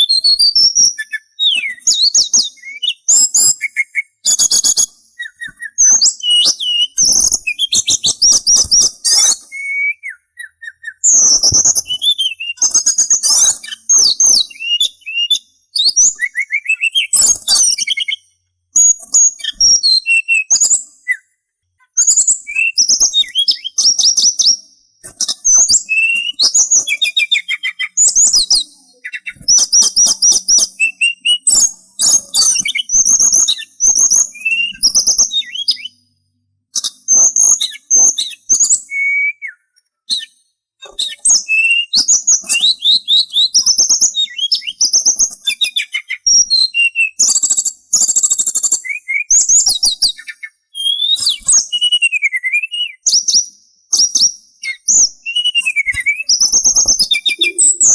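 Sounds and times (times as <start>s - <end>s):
songbird singing: 0.0s - 21.3s, 21.9s - 57.9s.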